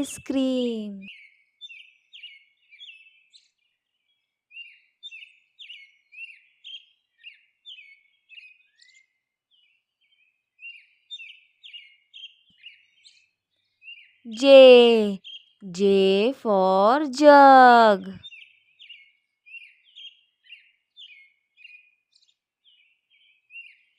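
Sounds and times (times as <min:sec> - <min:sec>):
birds chirping faintly: 0:00.0 - 0:23.9.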